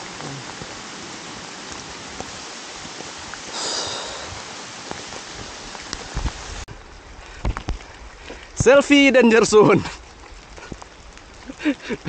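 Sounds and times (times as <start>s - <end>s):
rain falling on foliage: 0.0s - 12.0s.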